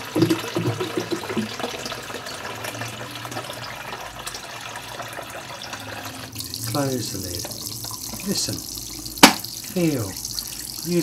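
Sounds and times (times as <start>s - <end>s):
tap water filling kettle: 0.0s - 11.0s.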